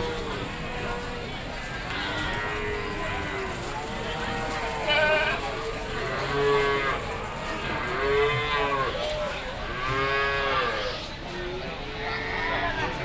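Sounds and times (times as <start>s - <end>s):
goats bleating: 0.0s - 11.0s.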